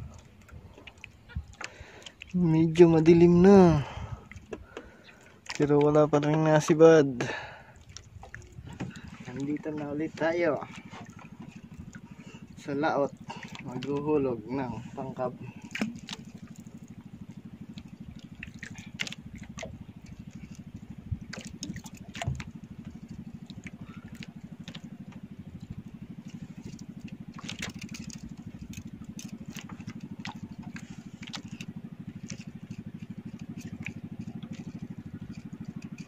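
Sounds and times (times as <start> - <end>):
small boat engine humming: 0.0 - 36.0.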